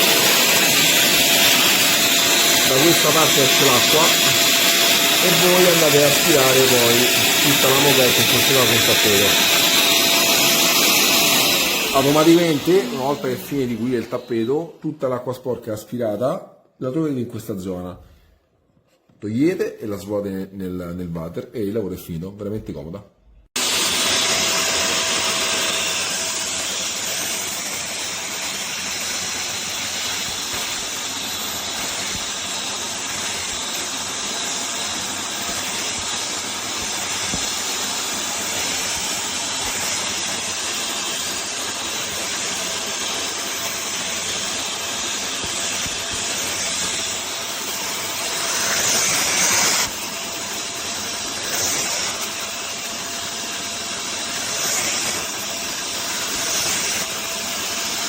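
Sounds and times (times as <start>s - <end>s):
carpet washer vacuum running: 0.0s - 14.8s, 23.6s - 58.0s.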